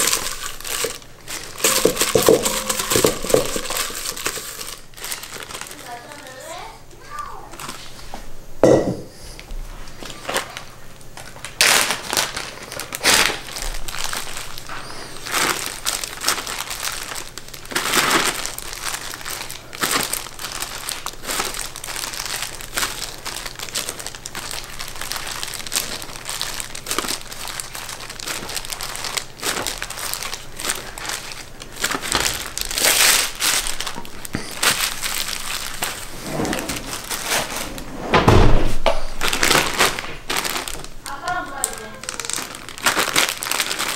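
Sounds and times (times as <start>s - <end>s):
plastic bags and gloves crinkling: 0.0s - 8.1s, 9.8s - 37.9s, 38.8s - 43.9s.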